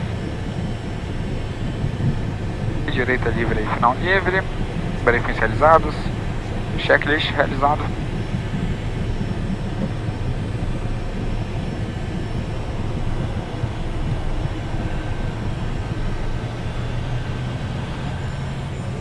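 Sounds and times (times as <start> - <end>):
faint engine whine: 0.0 - 19.0
jet engine low rumble: 0.0 - 19.0.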